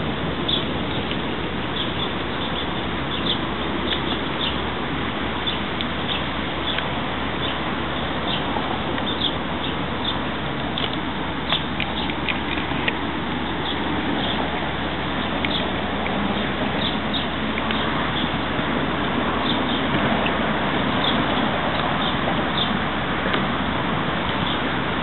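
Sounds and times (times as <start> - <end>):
rushing outdoor background noise: 0.0 - 25.0.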